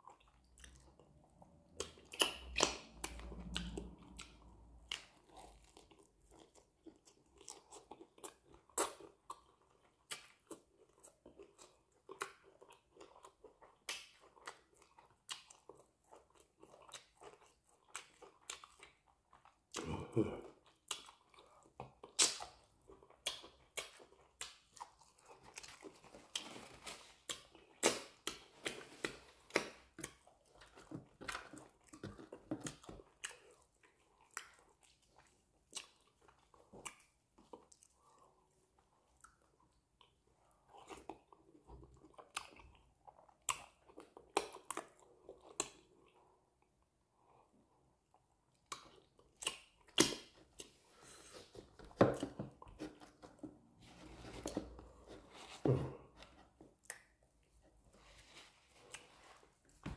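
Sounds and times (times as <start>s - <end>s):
man chewing with lip smacks: 0.0s - 59.9s.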